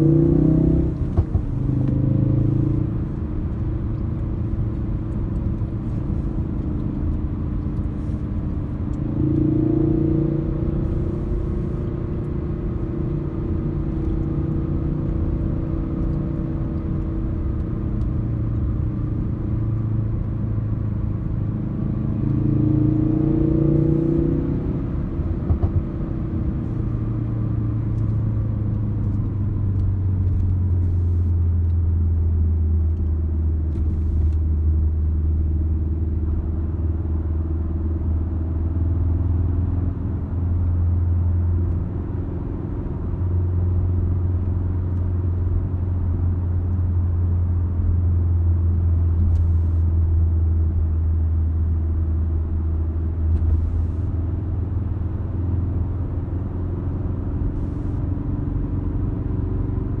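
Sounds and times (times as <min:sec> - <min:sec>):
car interior engine and road drone: 0:00.0 - 1:00.0.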